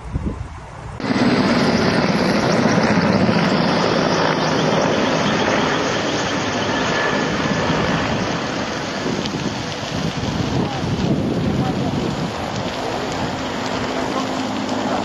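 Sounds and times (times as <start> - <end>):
helicopter rotor and engine drone: 1.0 - 15.0.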